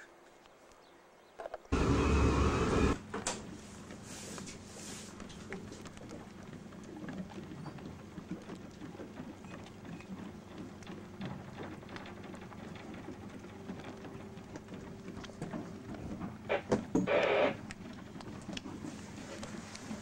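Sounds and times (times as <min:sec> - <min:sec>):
light rain pattering: 0:00.0 - 0:01.8, 0:03.0 - 0:20.0.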